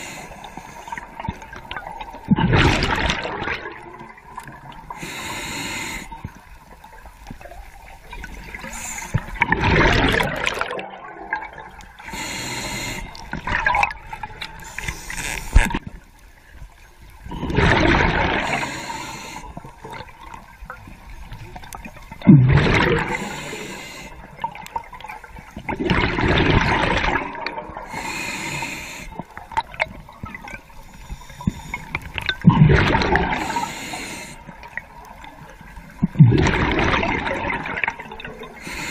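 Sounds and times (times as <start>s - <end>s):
underwater air bubbles gurgling: 0.0s - 38.9s.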